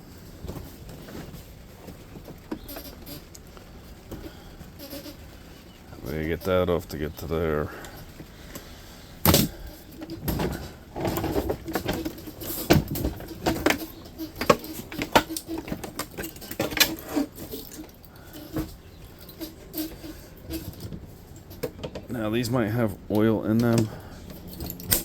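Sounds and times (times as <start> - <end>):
hand tools and metal parts rattling: 0.0 - 25.0.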